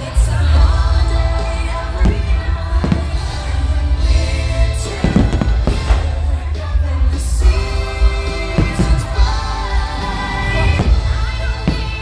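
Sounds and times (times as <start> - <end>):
loud christmas music: 0.0 - 12.0
fireworks bursting: 2.0 - 12.0.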